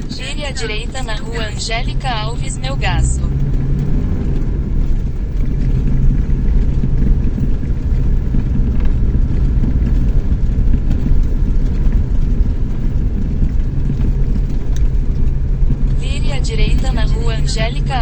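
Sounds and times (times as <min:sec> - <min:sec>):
pickup engine and road noise: 0:00.0 - 0:18.0.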